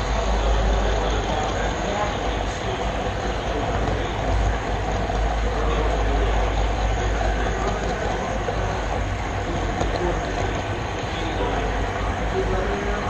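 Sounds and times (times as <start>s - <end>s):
model train rumbling and rattling: 0.0s - 13.0s.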